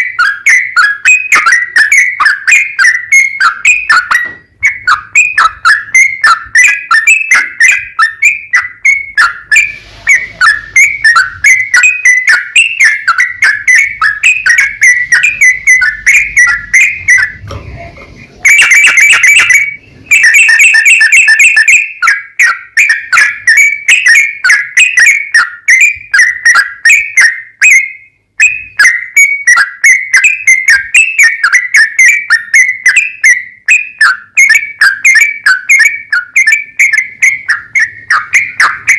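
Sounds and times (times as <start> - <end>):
bird singing rapid whistled song: 0.0 - 38.9.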